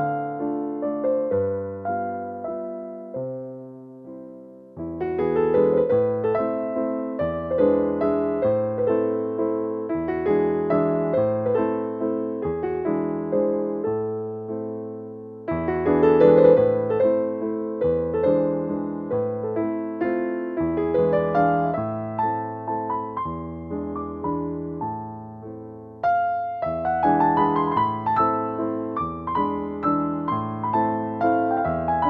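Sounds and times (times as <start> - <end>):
slow piano music: 0.0 - 32.0.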